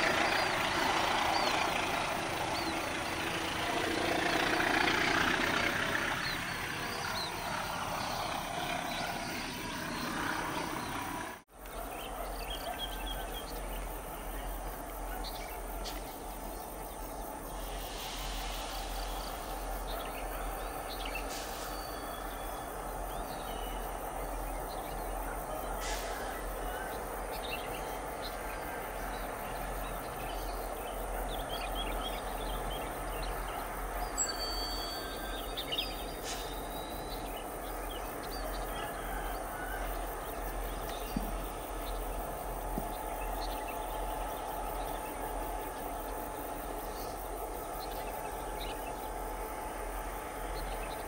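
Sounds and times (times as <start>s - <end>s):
birds chirping: 0.0s - 51.0s
diesel locomotive engine hum: 0.0s - 51.0s
train rumble and wheel noise: 0.0s - 51.0s.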